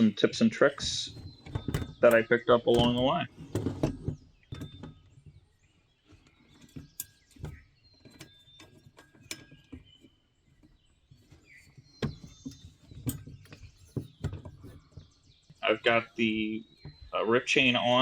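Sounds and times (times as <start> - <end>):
birds chirping: 0.0 - 18.0
clicks and knocks: 0.7 - 5.4, 6.1 - 16.0.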